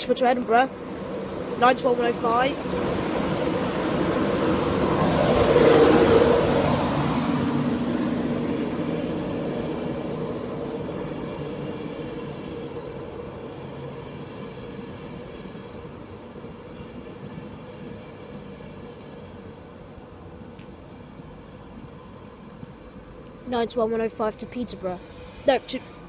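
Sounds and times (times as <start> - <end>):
train rolling to a stop: 2.7 - 23.4, 24.5 - 26.0.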